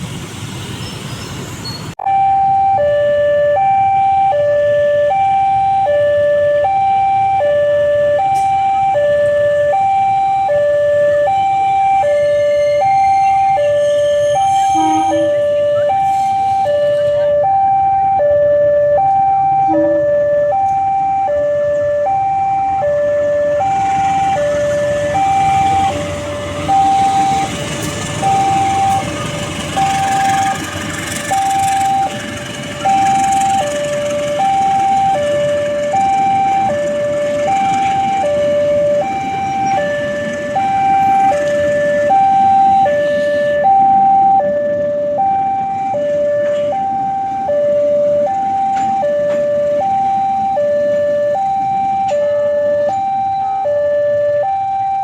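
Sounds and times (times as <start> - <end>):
two-tone hi-lo siren: 2.0 - 55.0.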